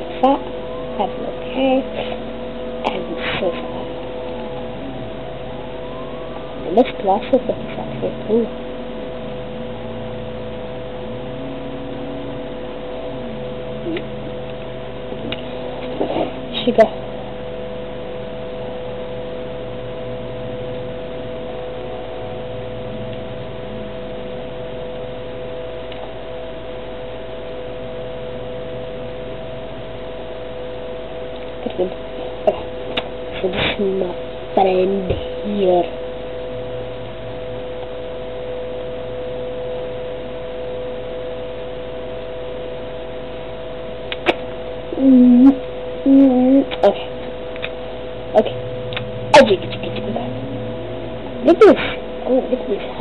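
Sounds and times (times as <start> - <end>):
humming tones: 0.0 - 53.0.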